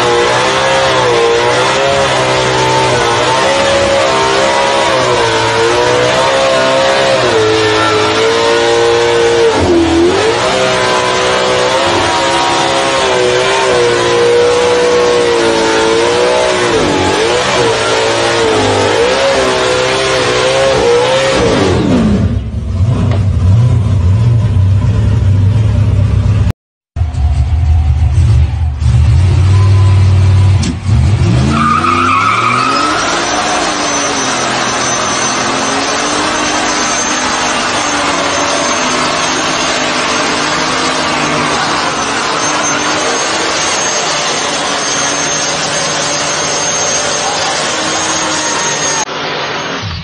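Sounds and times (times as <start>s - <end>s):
car engine revving high: 0.0s - 24.9s, 28.2s - 50.0s.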